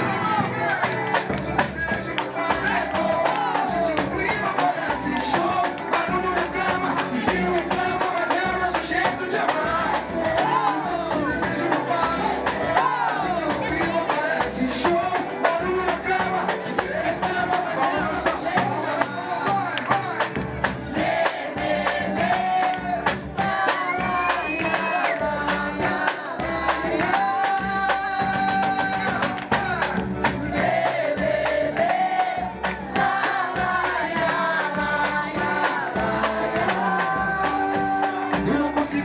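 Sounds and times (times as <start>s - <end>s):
singing over rhythmic beat: 0.0s - 39.0s.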